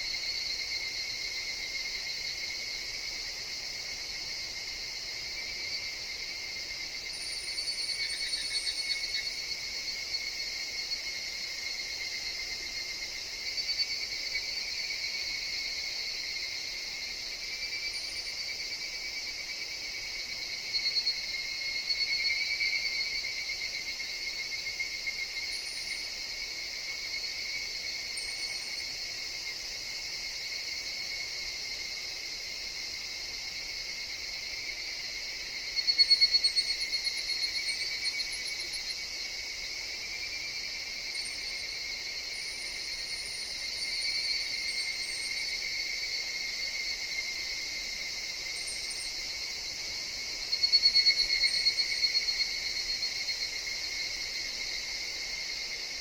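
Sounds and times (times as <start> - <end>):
cicadas calling in chorus: 0.0 - 56.0.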